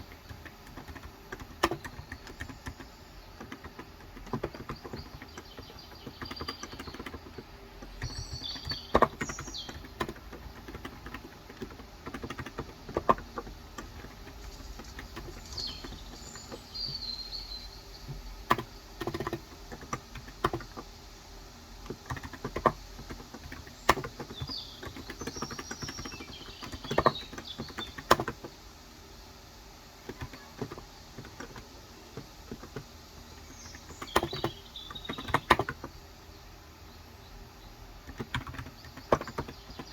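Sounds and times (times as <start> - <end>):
keyboard typing: 0.0 - 21.0, 21.7 - 28.6, 30.0 - 36.0, 38.0 - 39.9
birds chirping: 0.0 - 39.9.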